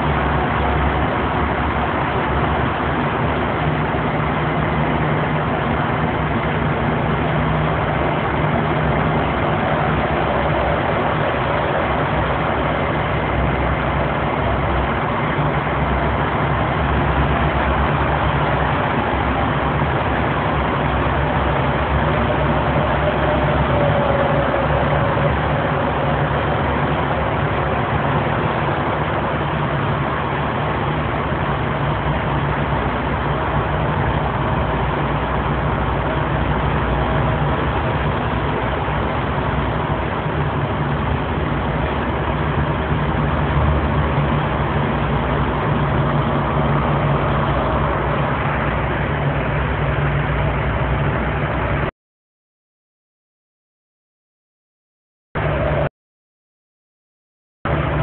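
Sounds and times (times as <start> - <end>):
engine hum: 0.0 - 51.9, 55.4 - 55.9, 57.7 - 58.0.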